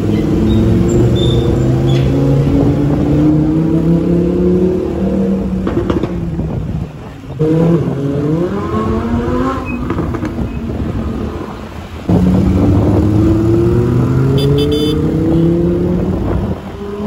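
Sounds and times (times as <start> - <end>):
vehicle engine accelerating: 0.0 - 6.2, 7.4 - 17.0.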